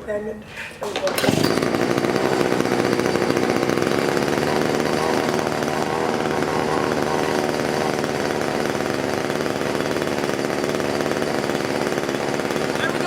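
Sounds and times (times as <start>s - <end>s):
two-stroke blower engine running: 0.9s - 13.0s.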